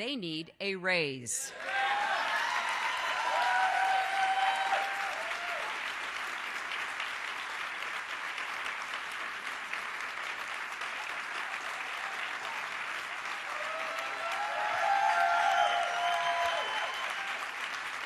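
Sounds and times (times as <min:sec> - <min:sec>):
audience applauding: 0:01.5 - 0:18.0.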